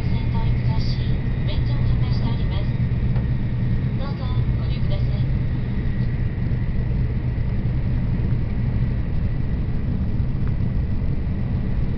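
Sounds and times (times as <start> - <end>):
train rumbling: 0.0 - 11.9.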